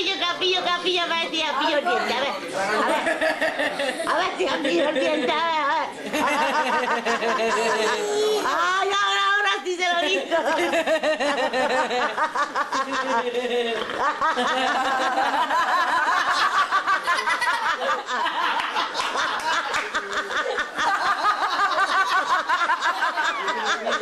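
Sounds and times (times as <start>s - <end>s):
people laughing together: 1.6s - 9.0s, 9.8s - 24.0s.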